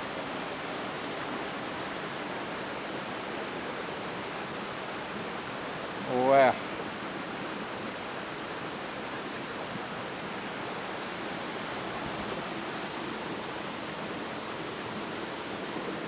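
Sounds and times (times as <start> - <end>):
waterfall and creek rushing: 0.0 - 16.0.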